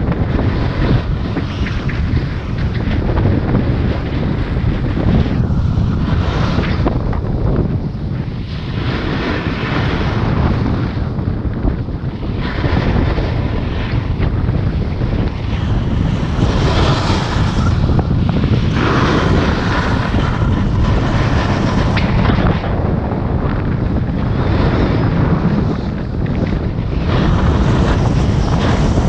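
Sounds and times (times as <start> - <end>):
snowboard scraping over snow: 0.0 - 29.0
wind rushing over microphone: 0.0 - 29.0.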